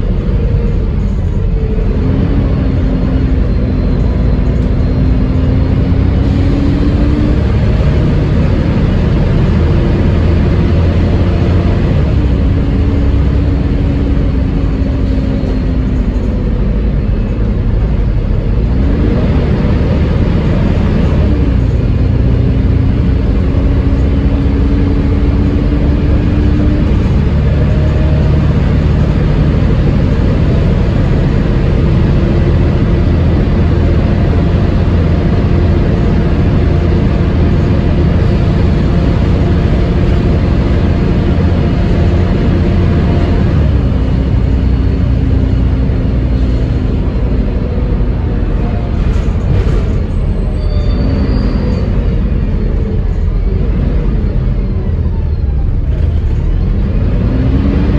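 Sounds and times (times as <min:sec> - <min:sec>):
bus drivetrain whine: 0:00.0 - 0:57.9
low engine rumble: 0:00.0 - 0:57.9.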